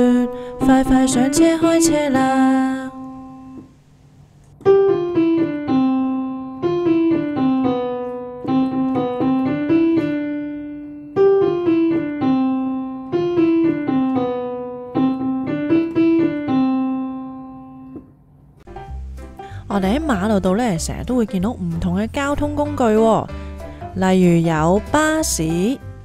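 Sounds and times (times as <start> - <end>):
solo piano melody: 0.0 - 3.8, 4.5 - 26.0.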